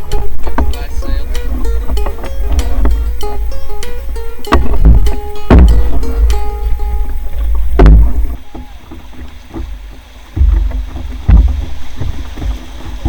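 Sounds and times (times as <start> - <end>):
paddle strokes: 0.0 - 13.0
sharp knocks: 0.0 - 13.0
water splashing: 0.0 - 13.0
wind buffeting microphone: 0.0 - 13.0.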